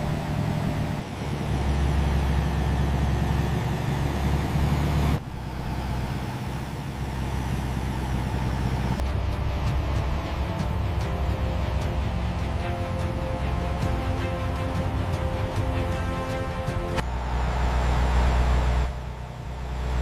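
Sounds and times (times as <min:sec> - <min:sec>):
low mechanical rumble: 0:00.0 - 0:20.0.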